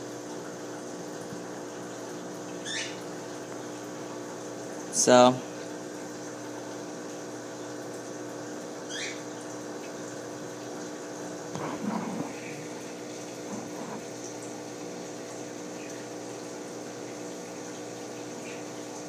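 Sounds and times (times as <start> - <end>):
aquarium filter pump humming: 0.0 - 19.0
water running: 0.0 - 19.0.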